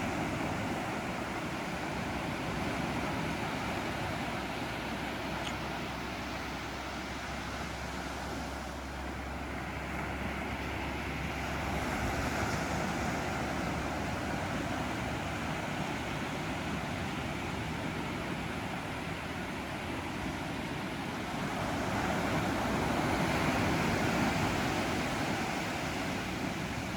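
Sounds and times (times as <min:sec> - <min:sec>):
ocean waves washing onto beach: 0:00.0 - 0:26.9.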